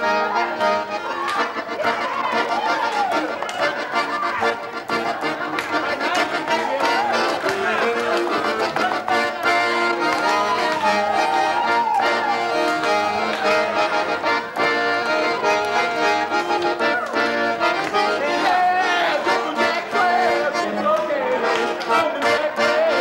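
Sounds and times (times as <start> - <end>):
accordion-led band music: 0.0 - 23.0.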